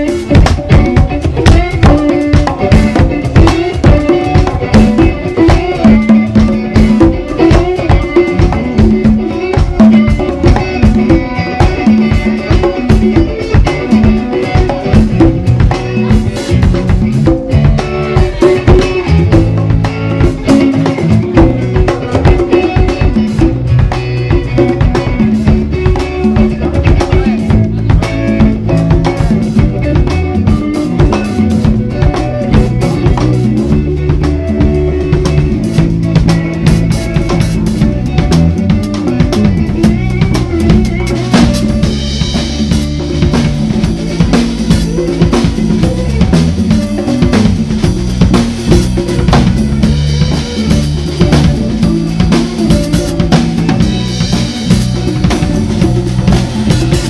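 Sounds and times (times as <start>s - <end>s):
bass guitar: 0.0s - 57.0s
drum kit playing: 0.0s - 57.0s
electric guitar: 0.0s - 57.0s.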